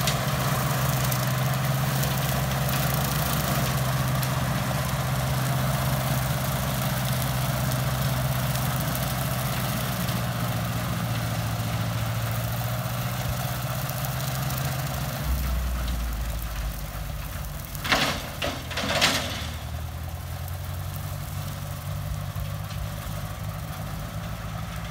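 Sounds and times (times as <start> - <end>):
tractor engine running under load: 0.0 - 24.9.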